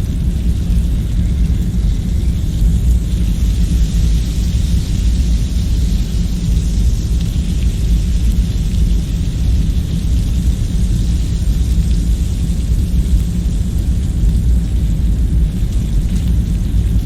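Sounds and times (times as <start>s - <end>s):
deep rumble with hiss: 0.0s - 17.0s.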